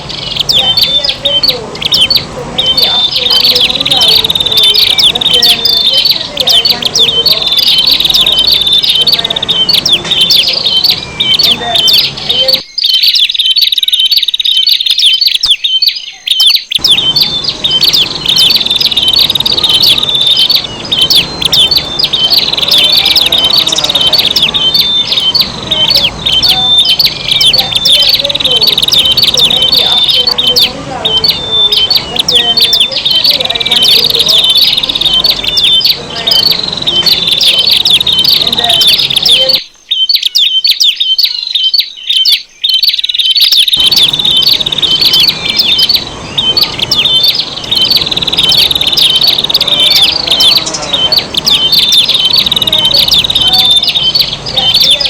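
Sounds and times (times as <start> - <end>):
birds chirping chorus: 0.0 - 55.0.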